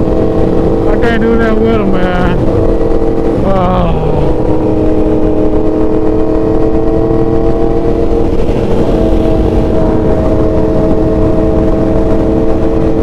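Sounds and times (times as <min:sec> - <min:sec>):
motorcycle engine droning: 0:00.0 - 0:13.0
wind rush: 0:00.0 - 0:13.0.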